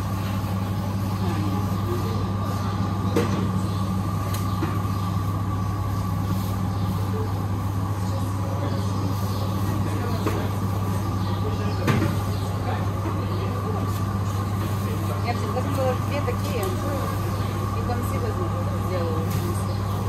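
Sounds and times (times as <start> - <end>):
faint voices: 0.0 - 20.0
refrigeration machinery hum: 0.0 - 20.0.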